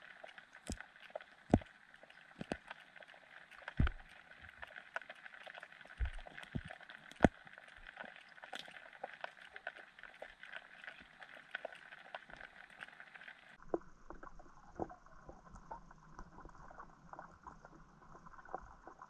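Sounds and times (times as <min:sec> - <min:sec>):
small underwater clicks: 0:00.0 - 0:19.0.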